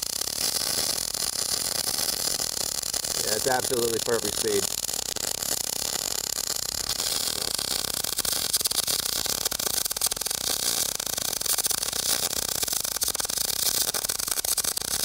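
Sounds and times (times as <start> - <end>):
arc welding crackling hiss: 0.0 - 15.0.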